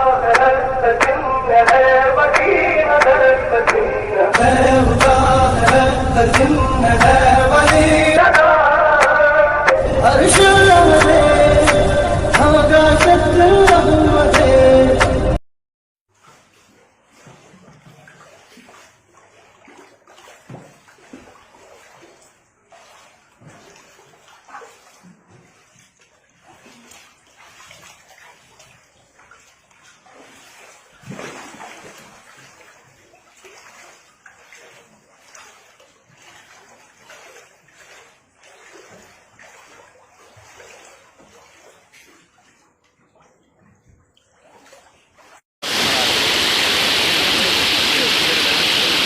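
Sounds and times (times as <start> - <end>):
floodwater running and sloshing: 0.0 - 14.4, 16.1 - 49.0.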